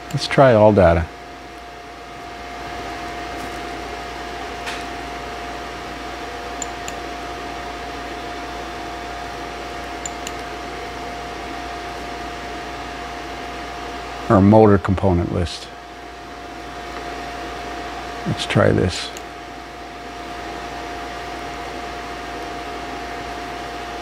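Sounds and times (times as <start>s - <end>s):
mechanical fan hum with whine: 0.0s - 24.0s.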